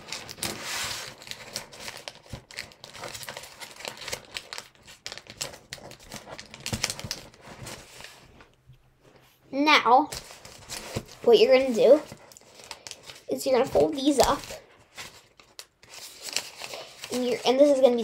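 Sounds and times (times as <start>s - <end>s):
paper crinkling while folded: 0.0s - 8.6s, 10.0s - 18.0s.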